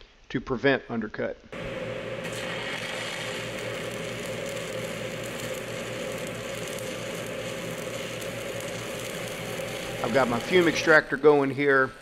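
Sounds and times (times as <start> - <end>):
welding arc crackling and hissing: 1.5 - 12.0
fume extractor humming: 1.6 - 12.0.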